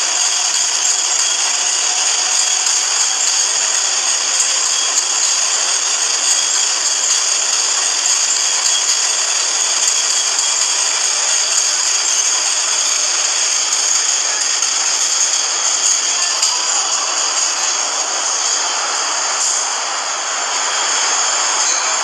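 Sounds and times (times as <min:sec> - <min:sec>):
train wheels rattling on track: 0:00.0 - 0:22.0.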